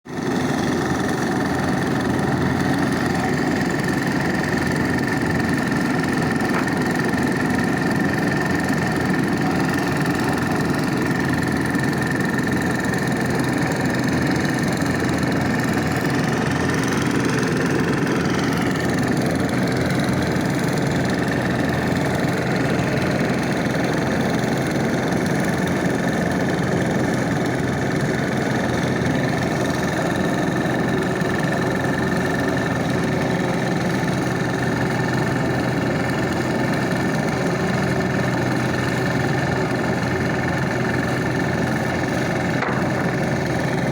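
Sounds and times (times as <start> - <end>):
constant high whine: 0.1 - 43.9
road roller diesel engine running: 0.1 - 43.9.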